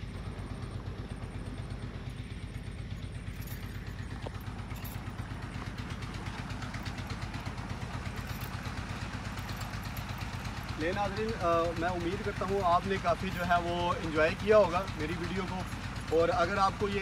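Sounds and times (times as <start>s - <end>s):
pump engine running: 0.0s - 17.0s.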